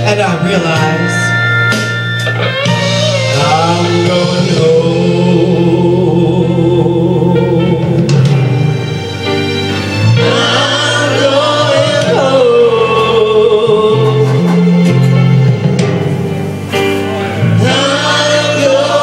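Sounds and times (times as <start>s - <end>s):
loud backing music: 0.0s - 19.0s.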